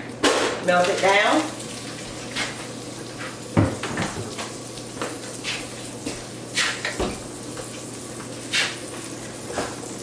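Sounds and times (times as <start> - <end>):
butter sizzling in a pot: 0.6 - 10.0.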